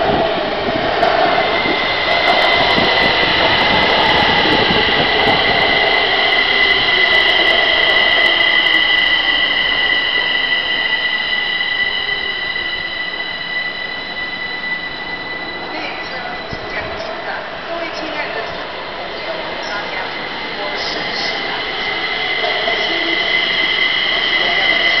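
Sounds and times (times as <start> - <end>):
high-pitched train squeal: 0.0 - 25.0
metro train rumbling: 0.0 - 25.0.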